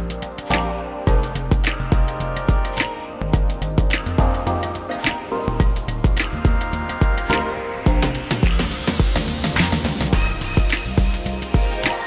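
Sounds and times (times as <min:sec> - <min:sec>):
music with drum beat and guitar: 0:00.0 - 0:12.0.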